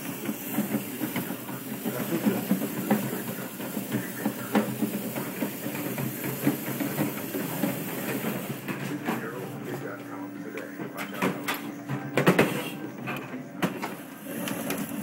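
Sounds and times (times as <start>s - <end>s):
push sweeper brushes rumbling: 0.0s - 15.0s.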